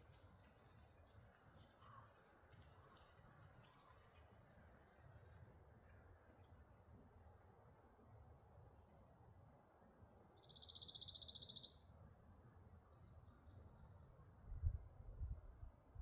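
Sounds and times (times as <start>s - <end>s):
faint forest background: 0.0s - 16.0s.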